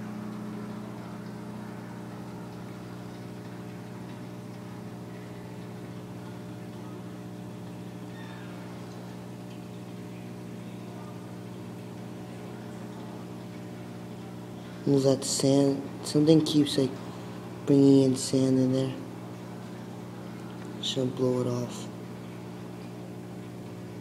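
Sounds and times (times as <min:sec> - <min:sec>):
aquarium pump humming: 0:00.0 - 0:24.0.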